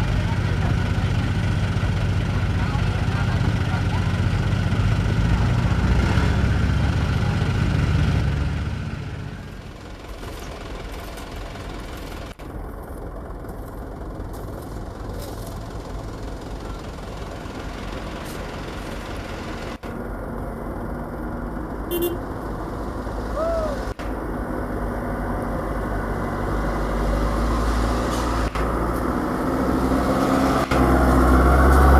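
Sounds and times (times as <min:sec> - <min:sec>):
truck engine working hard: 0:00.0 - 0:31.9.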